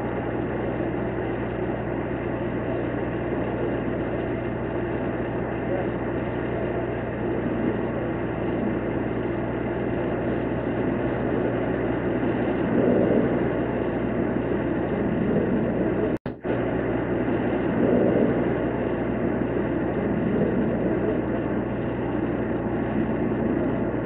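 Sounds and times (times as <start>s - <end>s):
engines idling: 0.0s - 24.0s.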